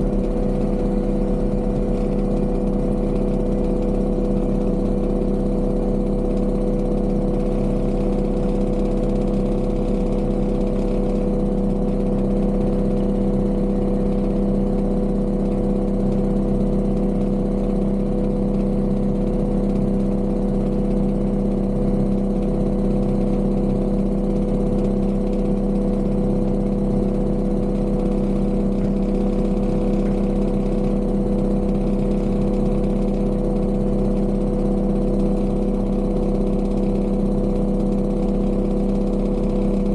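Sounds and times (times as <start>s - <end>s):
construction machine engine running: 0.0s - 39.9s.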